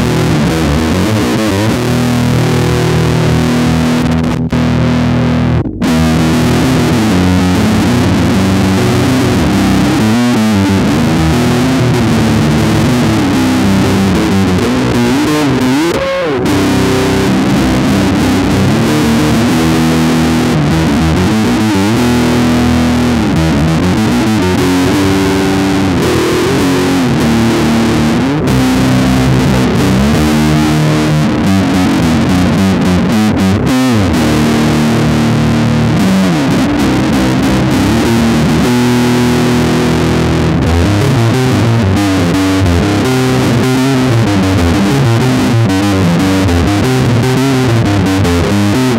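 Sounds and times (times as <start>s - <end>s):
electric bass metal riff: 0.0s - 48.9s.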